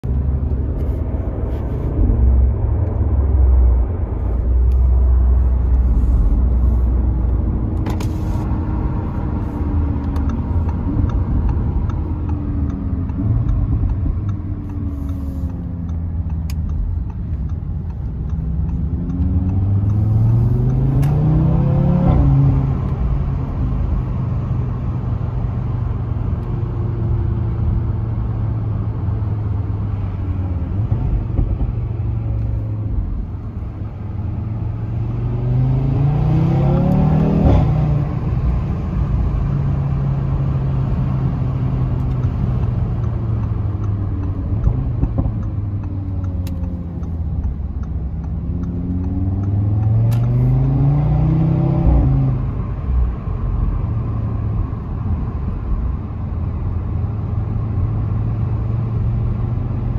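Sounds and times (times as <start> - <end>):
car engine rumbling and accelerating: 0.0 - 59.9.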